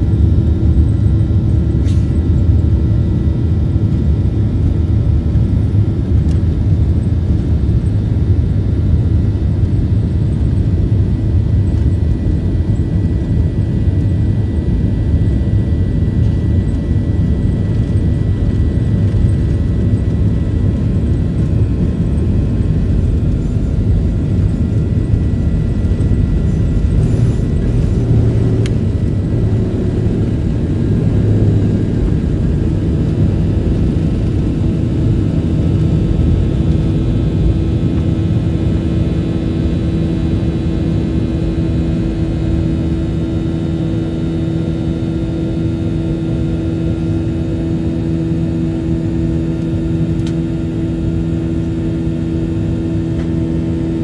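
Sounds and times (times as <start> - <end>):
jet cabin low rumble: 0.0 - 54.0.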